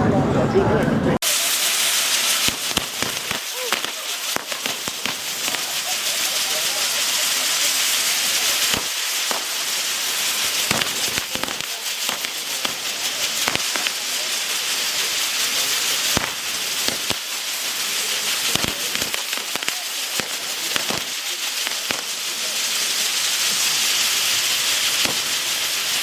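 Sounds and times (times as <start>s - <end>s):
fireworks cracks and bangs: 1.2s - 26.0s
fireworks hissing: 1.2s - 26.0s.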